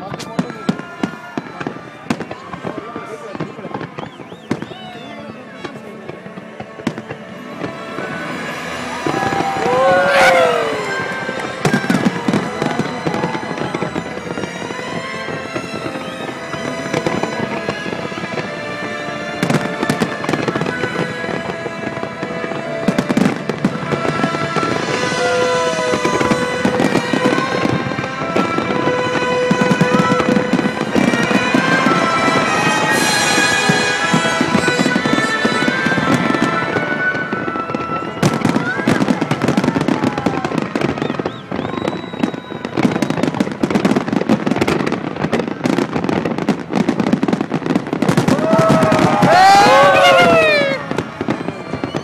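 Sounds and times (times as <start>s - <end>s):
fireworks crackling and popping: 0.0s - 52.0s
whistling fireworks: 0.0s - 52.0s.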